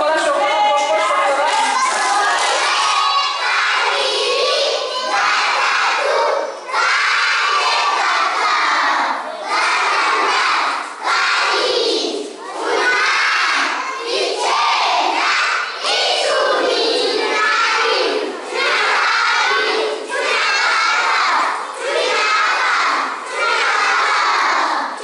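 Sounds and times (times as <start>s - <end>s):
children shouting and chanting: 0.0s - 25.0s.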